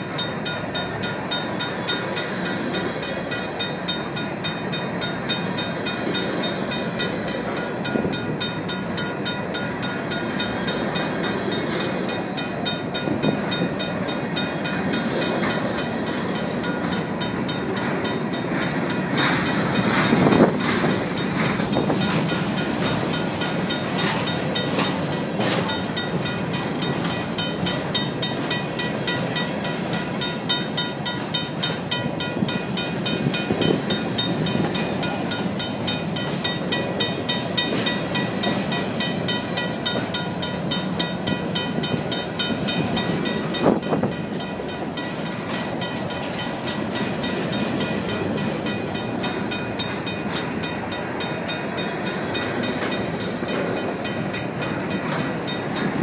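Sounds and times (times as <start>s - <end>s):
crossing bell ringing rapidly: 0.0s - 56.0s
train car clank: 0.0s - 56.0s
train wheels clattering on rails: 0.0s - 56.0s.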